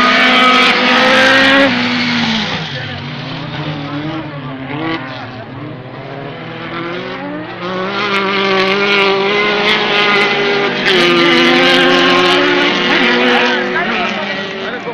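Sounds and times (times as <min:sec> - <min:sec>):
racing buggy engines revving: 0:00.0 - 0:14.9.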